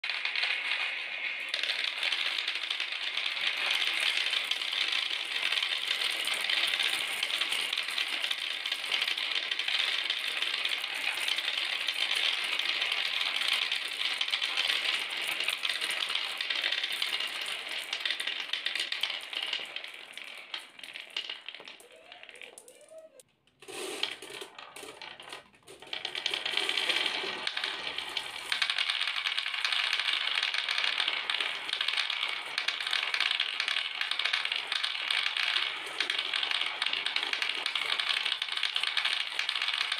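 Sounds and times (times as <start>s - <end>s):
marbles clattering down marble run: 0.0s - 39.9s.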